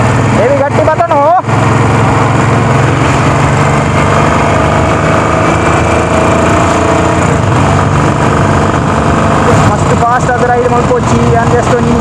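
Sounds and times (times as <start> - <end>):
motorcycle engine running: 0.0 - 12.0
wind rushing over microphone: 1.4 - 12.0.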